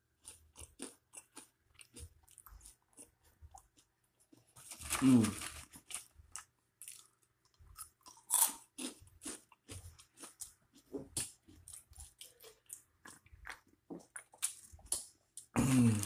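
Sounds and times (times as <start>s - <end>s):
person chewing crunchy snack: 0.2s - 16.0s.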